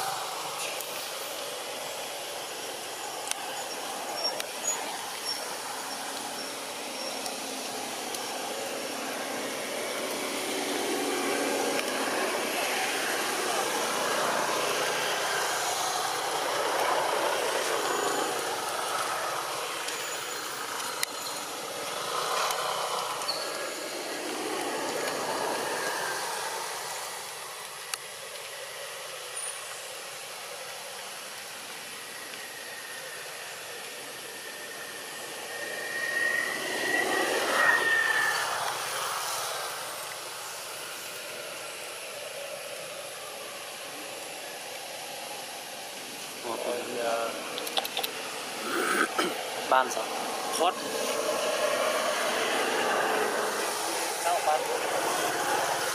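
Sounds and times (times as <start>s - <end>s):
distant engine noise: 0.0s - 55.9s.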